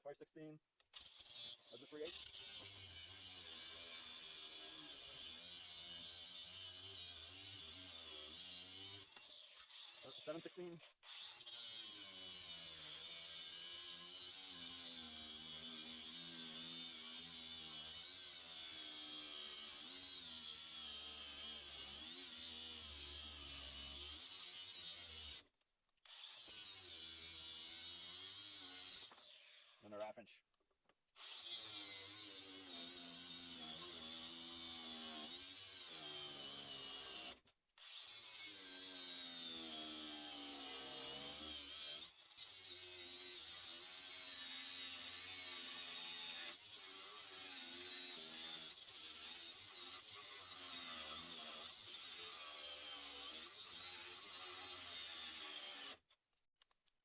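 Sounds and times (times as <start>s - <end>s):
angle grinder cutting metal: 1.0s - 25.4s, 26.1s - 29.9s, 31.2s - 56.0s.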